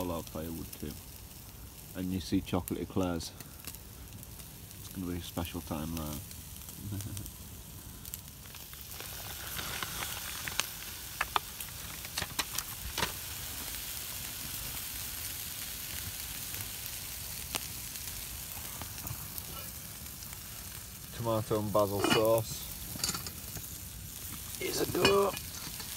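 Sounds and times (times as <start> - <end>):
campfire pops and crackles: 0.0 - 25.9
steaks sizzling on a grill: 0.0 - 25.9.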